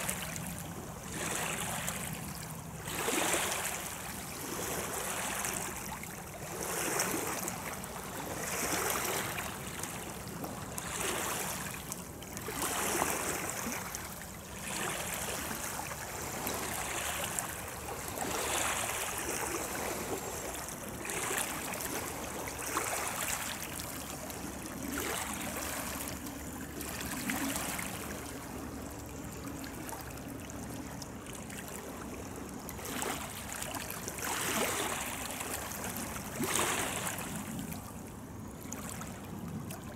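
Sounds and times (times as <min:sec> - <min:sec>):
river water lapping at shore: 0:00.0 - 0:39.9.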